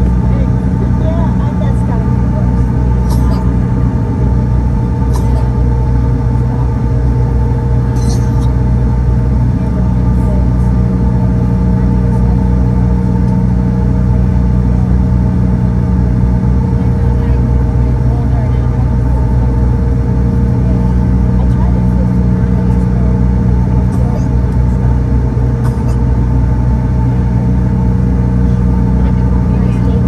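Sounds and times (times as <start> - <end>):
jet engines rumbling and whining: 0.0 - 30.0.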